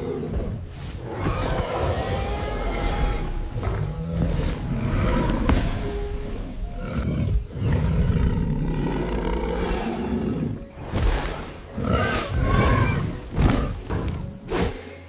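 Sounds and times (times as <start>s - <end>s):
large animal roaring: 0.0s - 10.7s, 11.7s - 13.7s.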